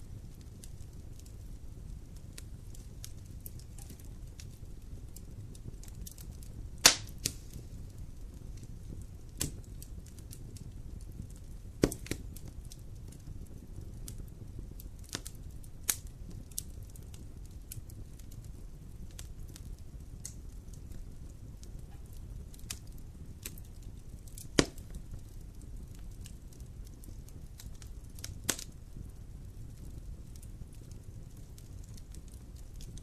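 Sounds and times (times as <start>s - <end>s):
campfire rumbling: 0.0s - 33.0s
fire crackles and sharp pops: 0.0s - 33.0s.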